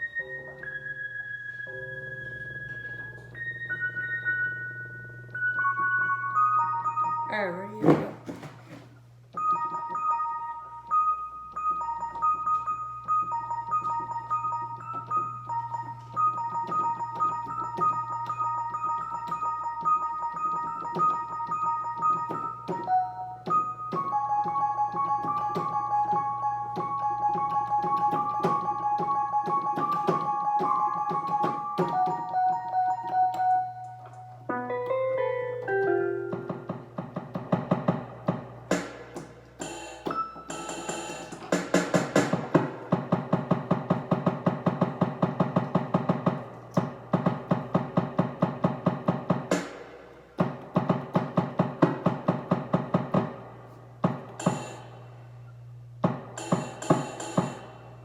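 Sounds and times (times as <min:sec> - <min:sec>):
electric piano melody: 0:00.0 - 0:07.8, 0:09.0 - 0:54.7.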